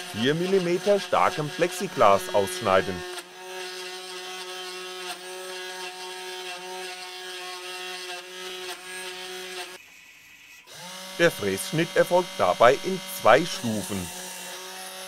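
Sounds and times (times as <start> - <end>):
milling motor cutting acrylic: 0.0 - 15.0.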